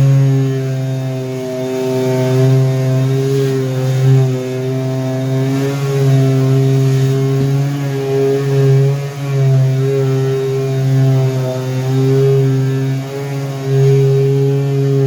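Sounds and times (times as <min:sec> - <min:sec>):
power tool motor running: 0:00.0 - 0:15.0.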